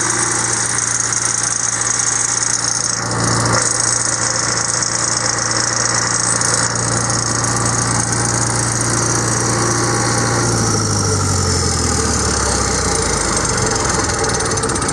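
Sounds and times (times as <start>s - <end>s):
diesel generator running: 0.0s - 14.9s.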